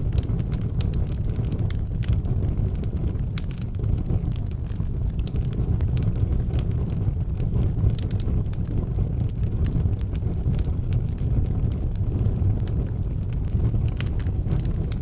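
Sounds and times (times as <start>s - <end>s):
fire crackling and popping: 0.0s - 15.0s
low rumble of fire: 0.0s - 15.0s.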